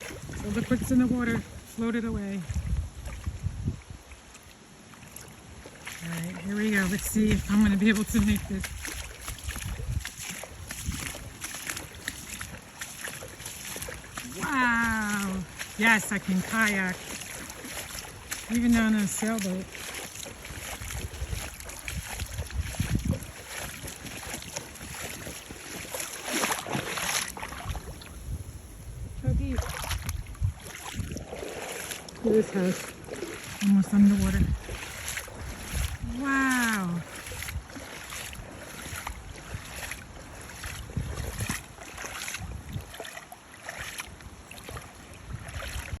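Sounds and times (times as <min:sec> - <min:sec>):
wind gusting on microphone: 0:00.0 - 0:04.2, 0:06.2 - 0:12.6, 0:13.7 - 0:43.0, 0:45.2 - 0:46.0
kayak paddling: 0:00.0 - 0:46.0
water lapping and splashing: 0:00.0 - 0:46.0.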